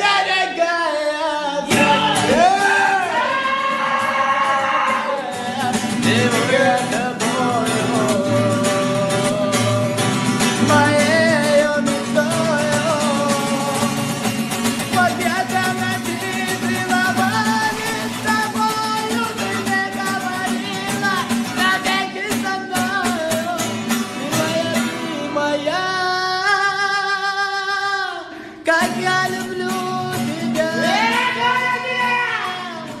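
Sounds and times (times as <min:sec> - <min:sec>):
person singing: 0:00.0 - 0:33.0.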